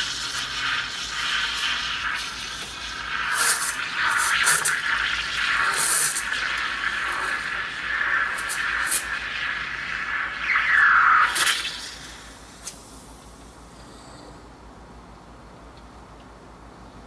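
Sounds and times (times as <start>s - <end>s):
steam wand hissing: 0.0s - 13.7s.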